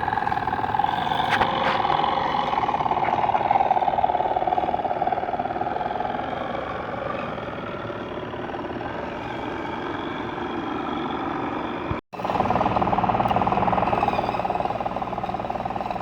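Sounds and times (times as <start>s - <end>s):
model steam engine running: 0.0s - 16.0s.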